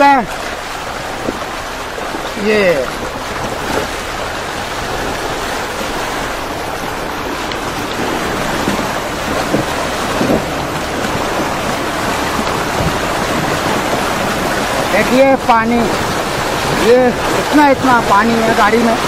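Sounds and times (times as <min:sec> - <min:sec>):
water splashing against vehicle wheel: 0:00.0 - 0:19.0.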